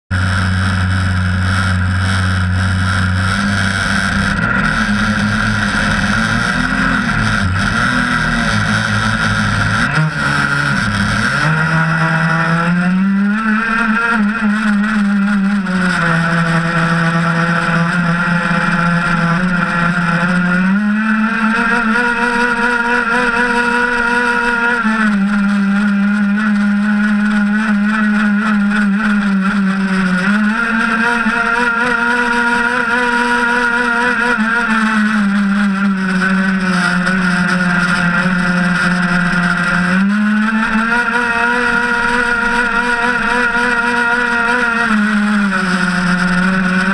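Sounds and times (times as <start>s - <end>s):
two-stroke boat engine: 0.0s - 46.9s.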